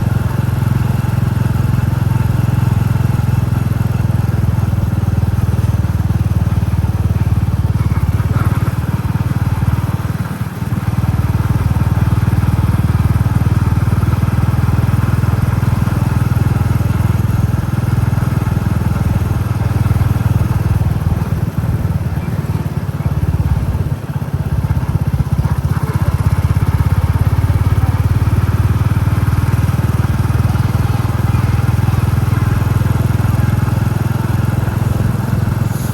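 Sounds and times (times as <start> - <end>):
motorcycle engine thumping: 0.0 - 35.9.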